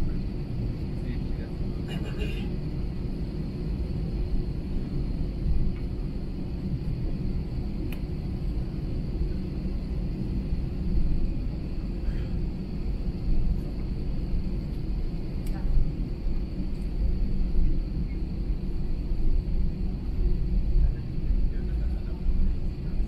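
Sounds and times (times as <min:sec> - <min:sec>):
airplane taxiing rumble: 0:00.0 - 0:23.0
faint high whine: 0:00.0 - 0:23.0.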